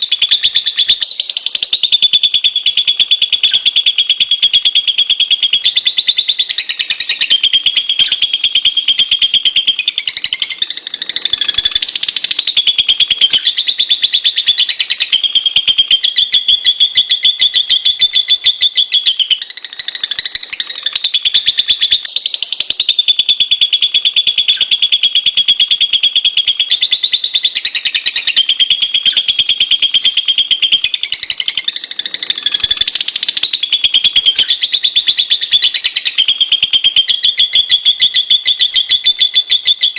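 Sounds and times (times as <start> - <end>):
bird chattering shrilly: 0.0 - 39.9.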